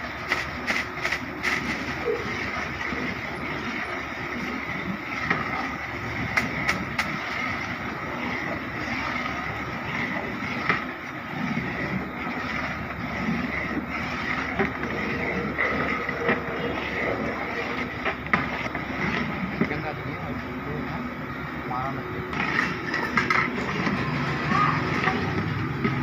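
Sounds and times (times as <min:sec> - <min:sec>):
wooden paddle stirring thick gravy: 0:00.0 - 0:21.1, 0:22.3 - 0:26.0
steady rushing background noise: 0:00.0 - 0:26.0.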